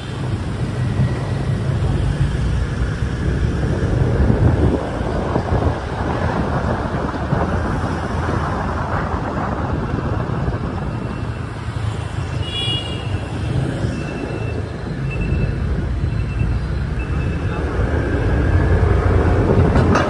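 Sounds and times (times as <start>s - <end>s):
wind on microphone: 0.0s - 12.4s, 13.0s - 20.0s
city street traffic: 0.0s - 20.0s.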